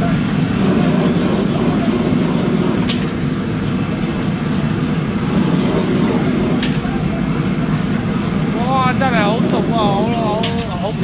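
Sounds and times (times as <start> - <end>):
gas burner roaring: 0.0 - 11.0.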